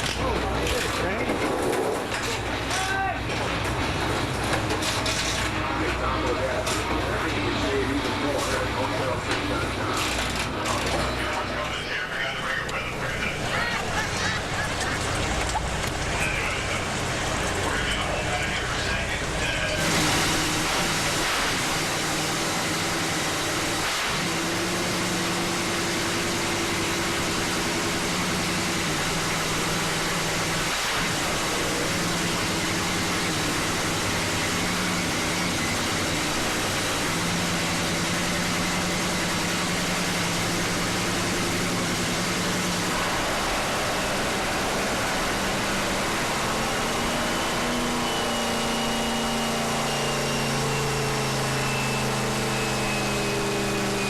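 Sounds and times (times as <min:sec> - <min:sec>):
supercharged engine rough idle: 0:00.0 - 0:54.0.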